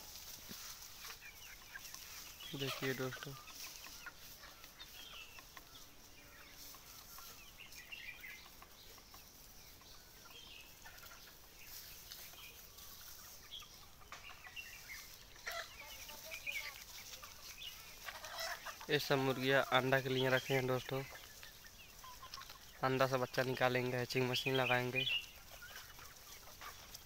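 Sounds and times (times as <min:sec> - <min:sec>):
hens clucking softly: 0:00.1 - 0:27.0.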